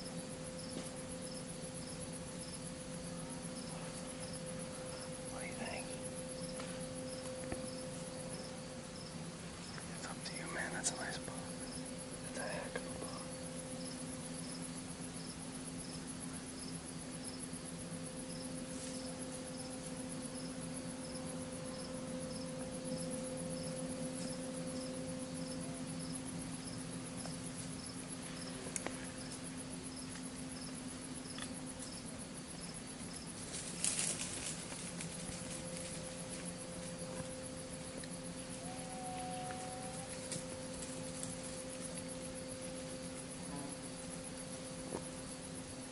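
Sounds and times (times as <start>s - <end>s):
crickets chirping: 0.0s - 45.9s
low steady hum: 0.0s - 45.9s.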